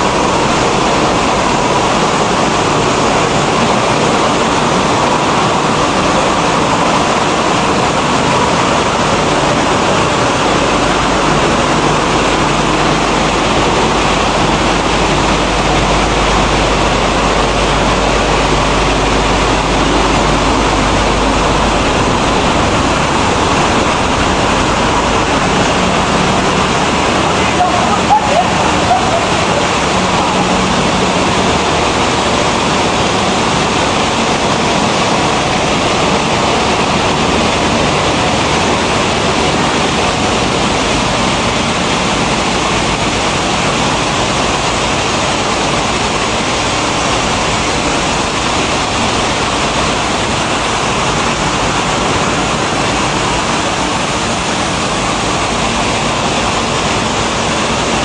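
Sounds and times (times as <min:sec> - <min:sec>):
milling machinery running: 0:00.0 - 0:58.0.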